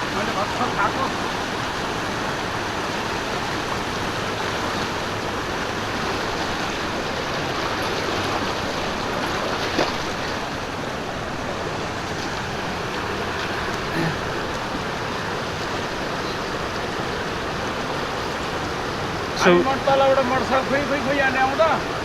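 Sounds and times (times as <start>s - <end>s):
stream water flowing: 0.0s - 22.0s.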